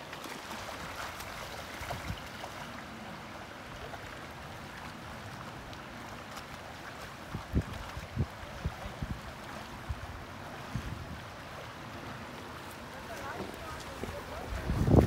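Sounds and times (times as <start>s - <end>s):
river water over rocks: 0.0s - 15.0s.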